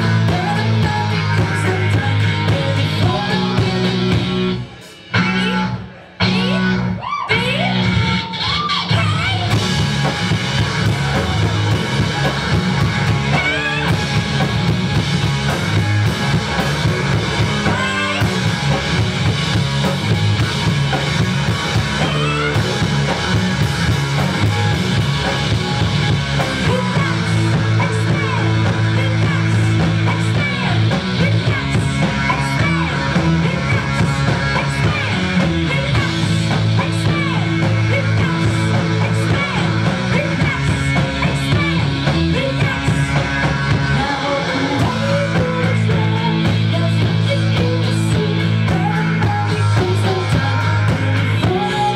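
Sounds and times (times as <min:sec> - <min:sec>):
drum kit: 0:00.0 - 0:51.9
electric bass guitar: 0:00.0 - 0:51.9.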